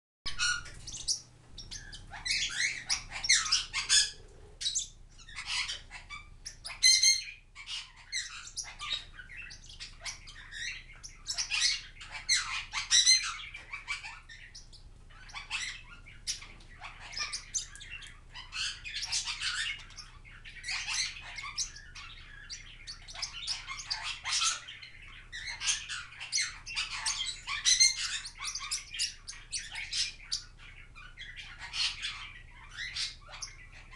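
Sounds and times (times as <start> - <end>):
parrots chattering and squawking: 0.3 - 33.9.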